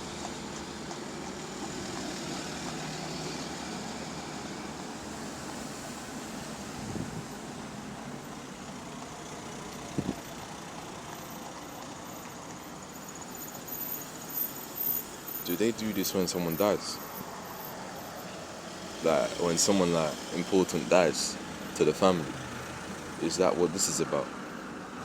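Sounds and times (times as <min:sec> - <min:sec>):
bus engine running: 0:00.0 - 0:25.0.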